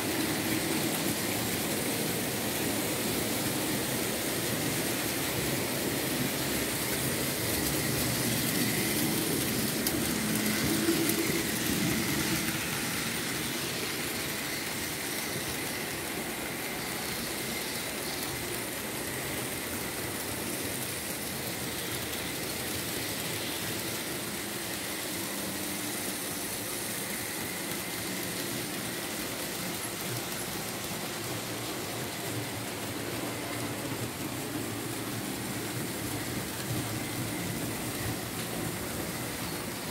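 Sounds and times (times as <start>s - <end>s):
model train motor whirring: 0.0s - 39.9s
wheels rolling on metal track: 0.0s - 39.9s.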